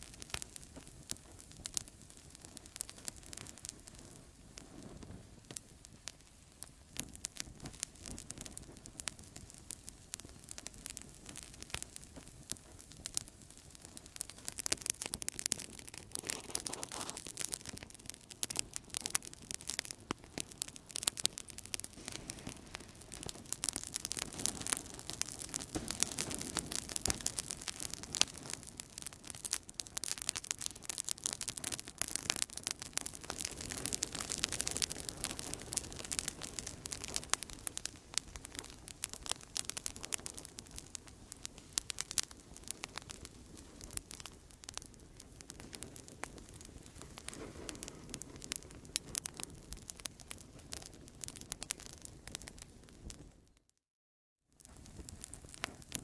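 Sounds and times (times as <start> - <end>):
campfire crackling: 0.0 - 53.4, 54.6 - 56.0.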